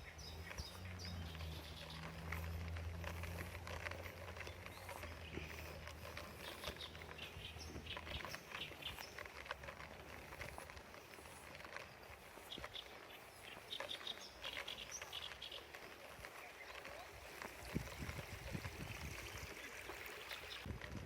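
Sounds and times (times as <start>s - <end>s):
small birds chirping: 0.0s - 20.7s.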